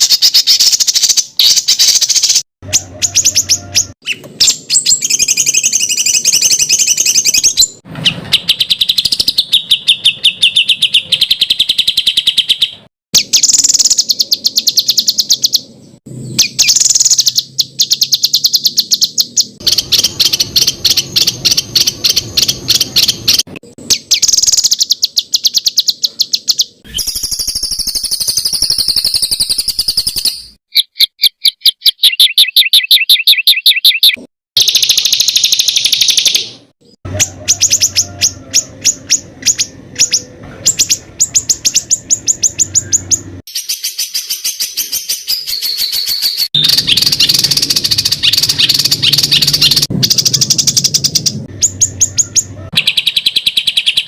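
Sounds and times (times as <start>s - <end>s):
songbird harsh chattering trills: 0.0s - 54.0s.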